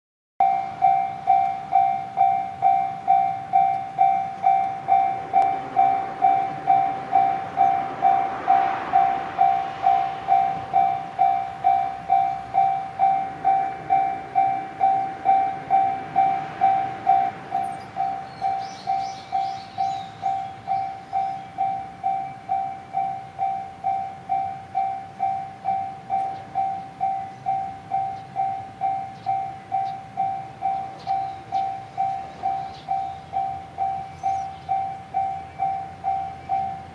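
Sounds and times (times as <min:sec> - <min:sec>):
level crossing warning bell: 0:00.4 - 0:36.9.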